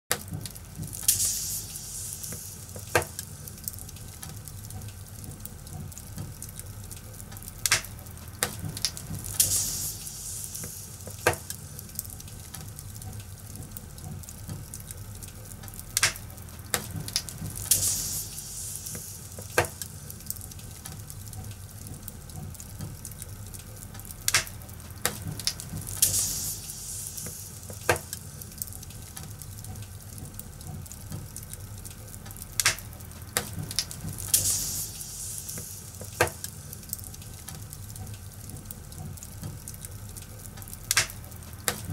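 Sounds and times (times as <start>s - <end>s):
fire crackling and popping: 0.1s - 41.9s
hiss of fire: 0.2s - 41.9s.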